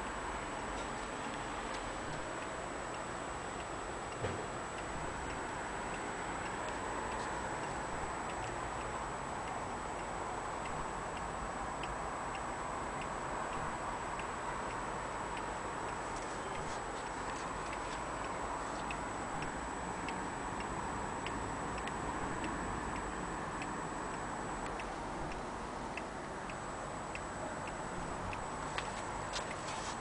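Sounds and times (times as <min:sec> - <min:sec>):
low background hiss: 0:00.0 - 0:30.0
pendulum clock ticking: 0:00.0 - 0:30.0.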